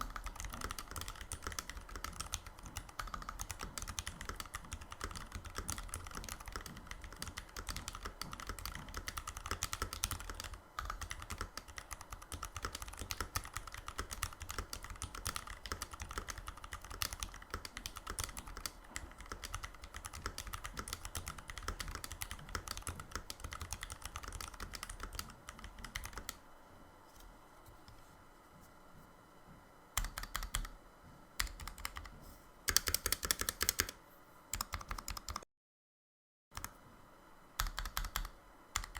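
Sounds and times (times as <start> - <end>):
mechanical keyboard typing: 0.0 - 26.4, 30.0 - 30.7, 31.4 - 32.1, 32.7 - 35.4, 36.6 - 36.8, 37.6 - 38.9.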